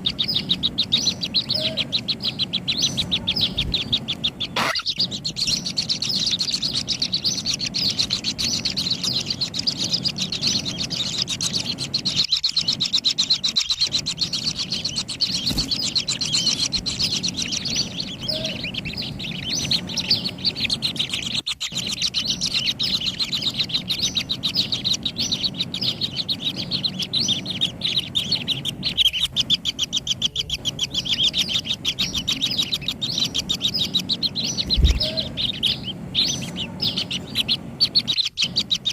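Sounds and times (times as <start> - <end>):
nestlings chirping: 0.0 - 38.9.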